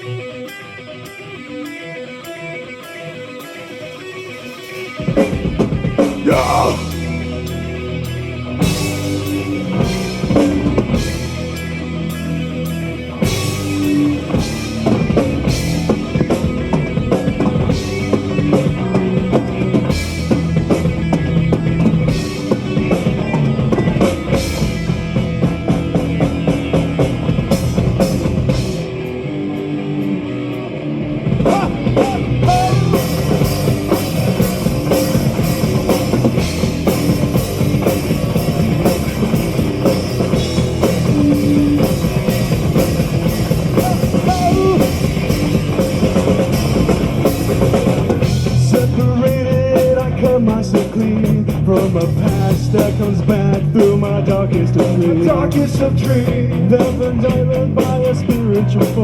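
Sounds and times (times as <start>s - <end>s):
live metal band playing: 0.0s - 59.0s
fast drumming: 4.9s - 7.7s, 8.6s - 29.2s, 31.3s - 59.0s.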